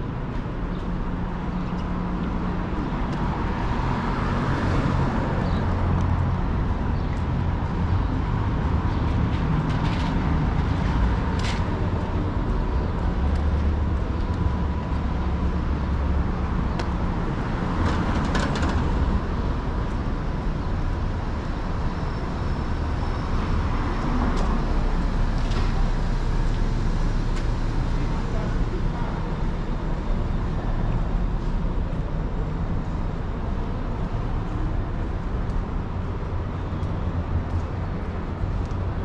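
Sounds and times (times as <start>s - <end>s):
low traffic rumble: 0.0s - 39.0s.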